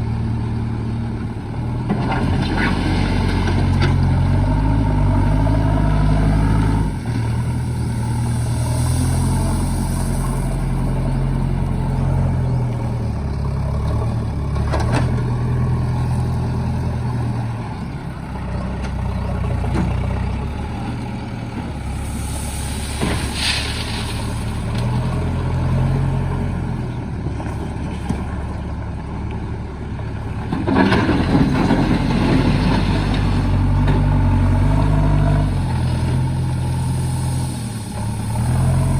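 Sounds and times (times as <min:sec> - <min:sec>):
backhoe diesel engine working: 0:00.0 - 0:38.9.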